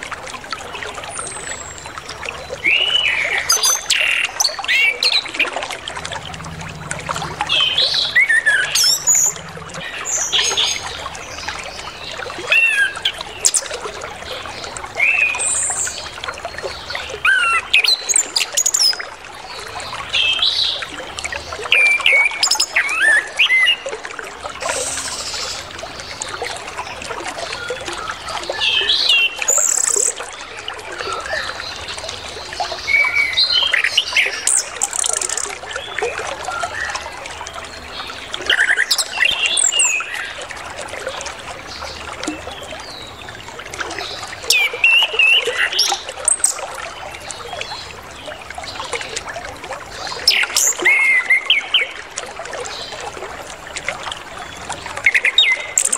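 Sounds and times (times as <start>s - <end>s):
trickle of running water: 0.0s - 55.9s.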